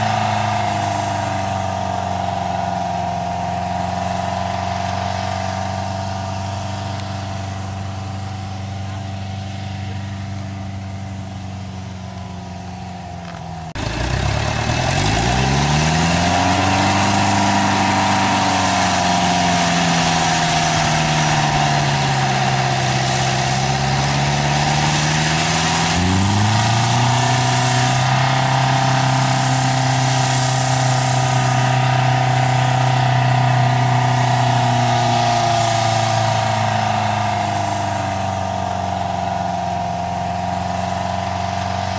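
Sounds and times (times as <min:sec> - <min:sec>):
tracked cart engine running: 0:00.0 - 0:41.9.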